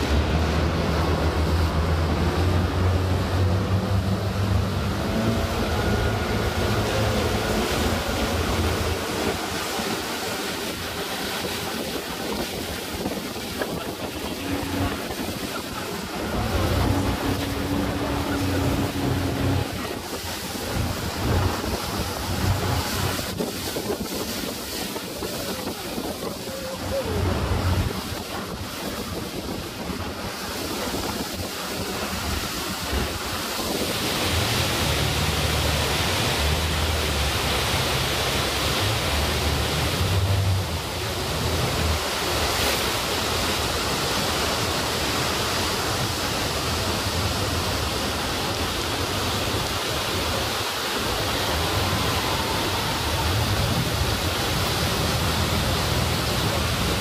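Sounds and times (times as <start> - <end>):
rushing water from speedboat: 0.0 - 57.0
waterfall rushing: 0.0 - 57.0
wind buffeting microphone: 0.0 - 57.0.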